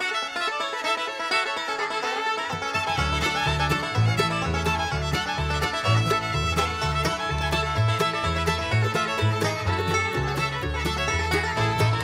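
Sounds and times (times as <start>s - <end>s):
lively string music: 0.0s - 12.0s.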